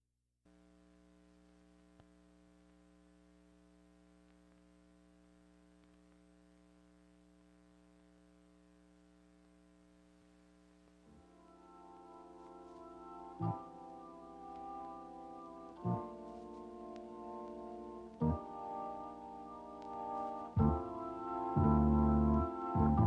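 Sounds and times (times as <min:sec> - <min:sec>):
faint electrical hum: 0:00.5 - 0:23.0.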